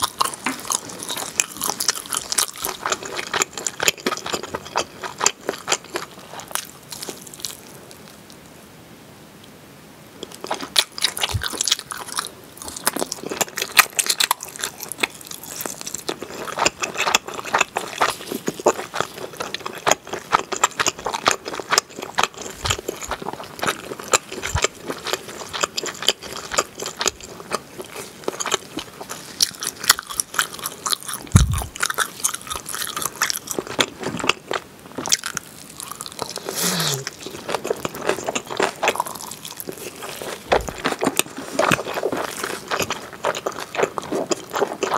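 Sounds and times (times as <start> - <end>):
wet chewing and mouth smacks: 0.0 - 8.3, 10.2 - 44.9.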